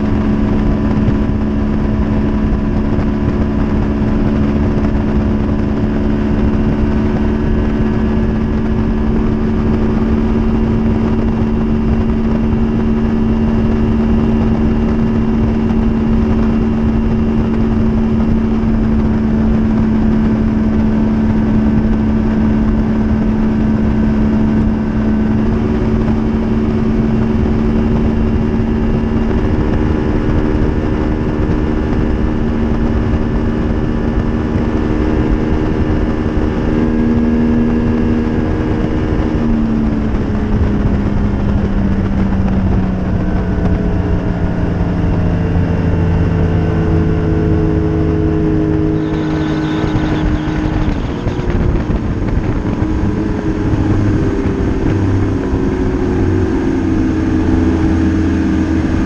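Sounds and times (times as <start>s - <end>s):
outboard motor drone: 0.0s - 59.0s
wind and water rush: 0.0s - 59.0s.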